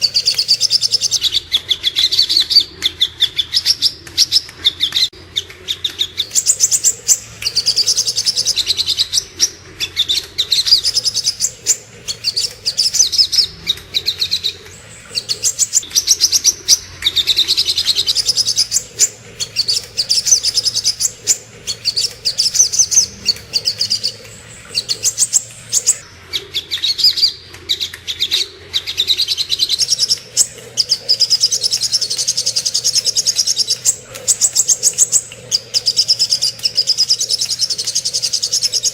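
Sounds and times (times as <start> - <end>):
sunbird chirping trills: 0.0 - 5.1, 5.7 - 27.4, 29.1 - 38.9.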